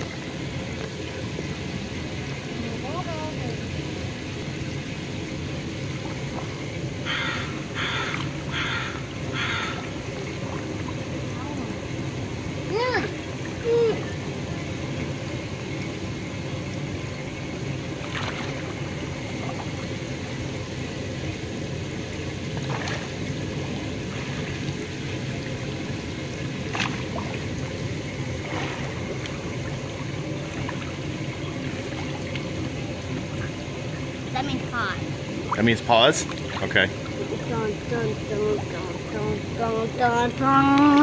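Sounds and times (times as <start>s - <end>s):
water rushing in a pool: 0.0s - 41.0s.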